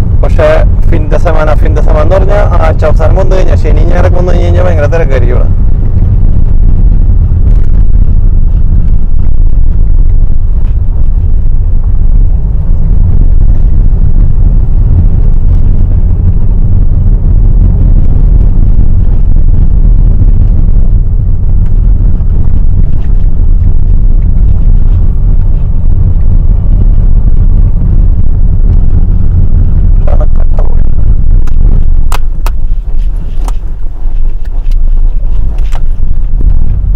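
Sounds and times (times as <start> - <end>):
car engine and tyres rumbling: 0.0 - 36.9.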